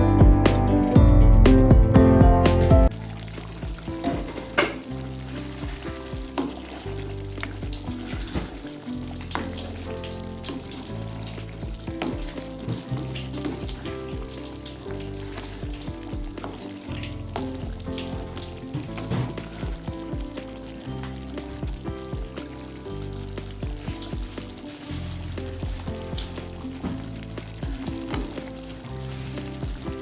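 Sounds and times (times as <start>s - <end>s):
background music with chords: 0.0s - 30.0s
meat sizzling in a pan: 2.9s - 30.0s.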